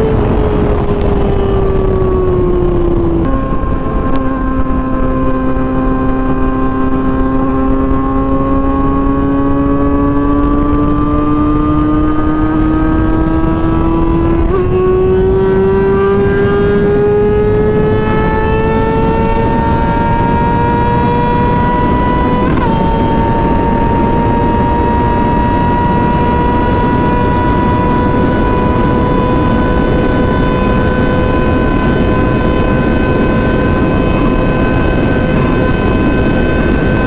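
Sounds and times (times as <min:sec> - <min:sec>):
heavy wind: 0:00.0 - 0:37.0
motorcycle engine running: 0:00.0 - 0:37.0
road rumble: 0:00.0 - 0:37.0.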